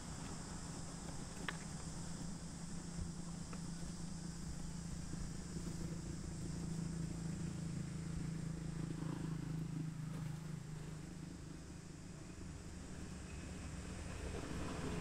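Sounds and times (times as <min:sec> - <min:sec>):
motor running low hum: 0:00.0 - 0:15.0.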